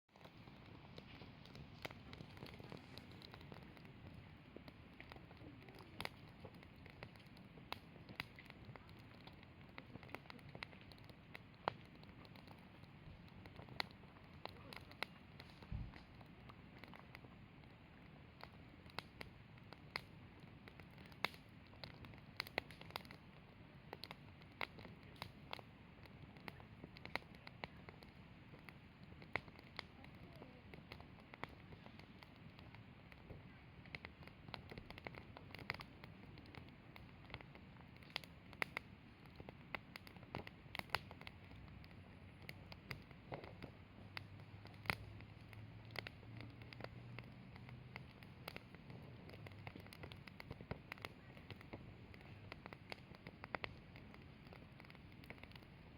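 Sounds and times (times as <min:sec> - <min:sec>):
wood fire crackling and popping: 0:00.1 - 0:55.9.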